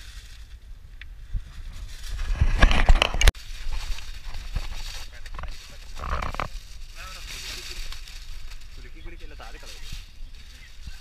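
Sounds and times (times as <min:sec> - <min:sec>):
plastic bag crinkling: 0:01.9 - 0:11.0.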